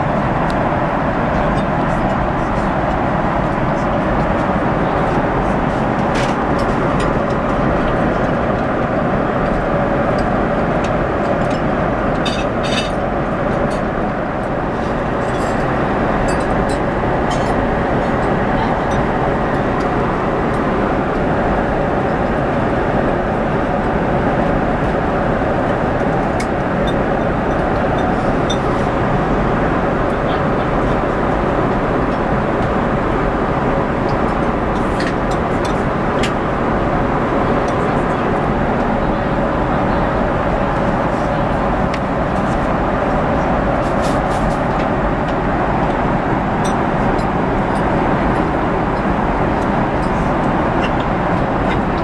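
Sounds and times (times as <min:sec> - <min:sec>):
airliner cabin engine rush: 0:00.0 - 0:52.0.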